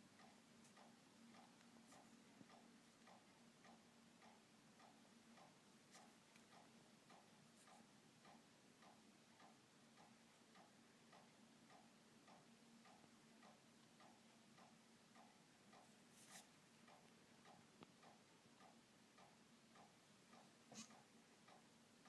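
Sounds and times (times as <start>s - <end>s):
faint regular ticking: 0.0s - 22.0s
low steady hum: 0.0s - 22.0s.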